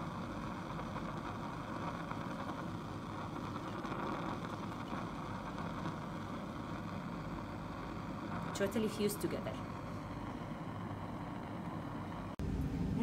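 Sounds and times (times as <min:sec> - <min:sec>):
gas burner flame rushing: 0:00.0 - 0:13.0.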